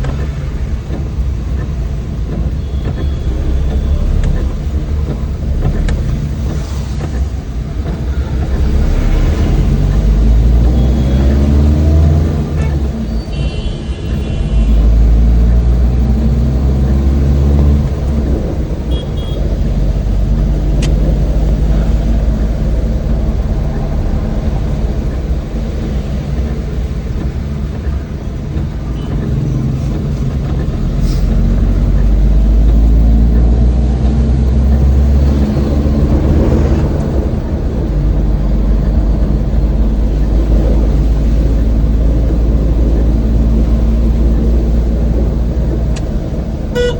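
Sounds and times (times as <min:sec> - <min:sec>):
road noise: 0:00.0 - 0:46.9
van engine driving: 0:00.0 - 0:46.9.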